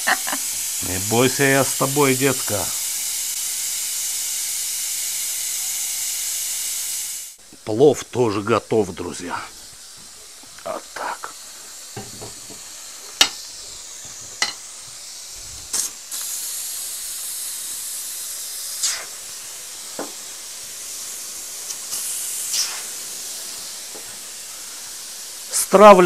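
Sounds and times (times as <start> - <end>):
steam hissing from pressure valve: 0.0 - 26.0.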